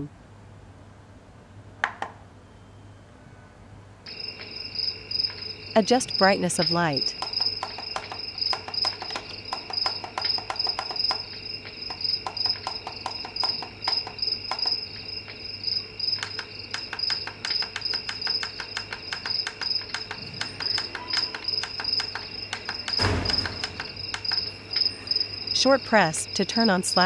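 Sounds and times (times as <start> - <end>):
crickets chirping: 4.0 - 27.0.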